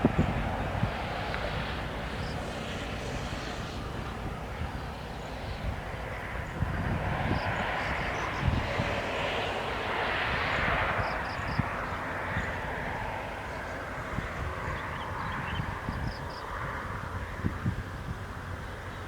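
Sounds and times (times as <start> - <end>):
steady outdoor rumbling: 0.0 - 19.0.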